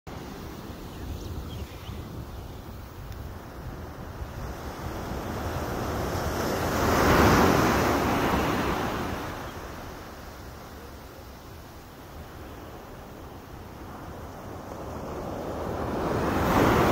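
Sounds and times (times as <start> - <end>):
small waves breaking on beach: 0.1 - 16.9.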